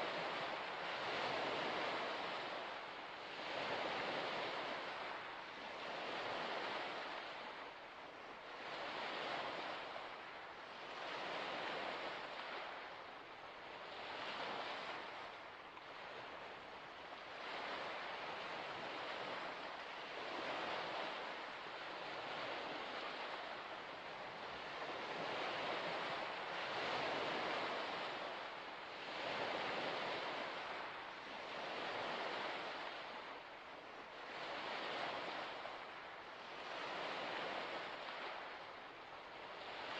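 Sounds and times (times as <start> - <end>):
small waves breaking on shore: 0.0 - 39.9.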